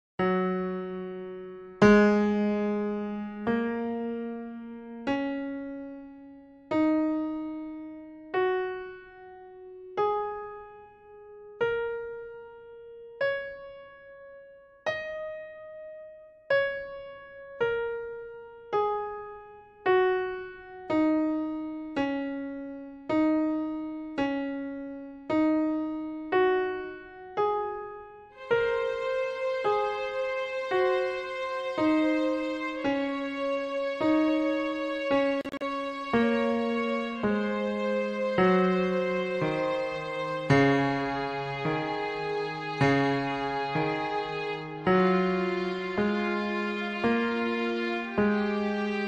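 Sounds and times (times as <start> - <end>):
slow piano-like melody: 0.2 - 49.0.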